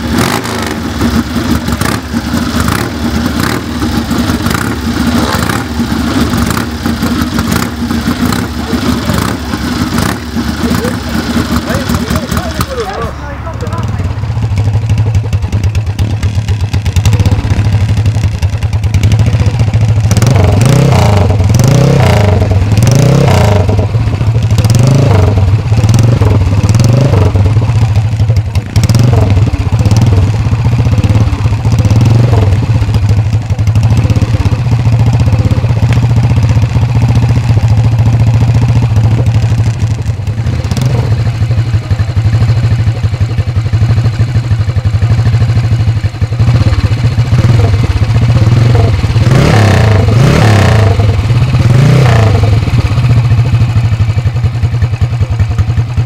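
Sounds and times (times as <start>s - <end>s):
motorbike engine revving and idling: 0.0s - 56.0s.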